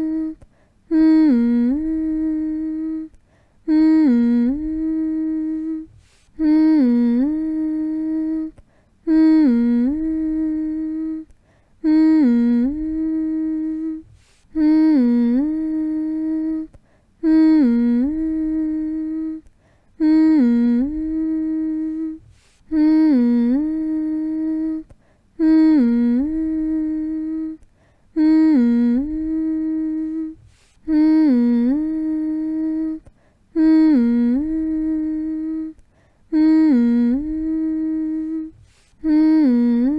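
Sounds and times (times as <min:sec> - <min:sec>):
person humming: 0:00.0 - 0:39.9.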